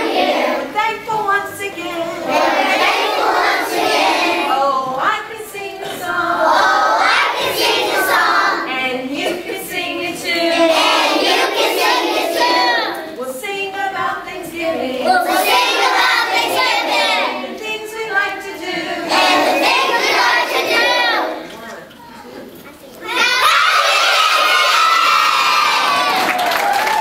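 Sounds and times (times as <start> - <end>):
children singing together: 0.0 - 21.5, 23.1 - 26.0.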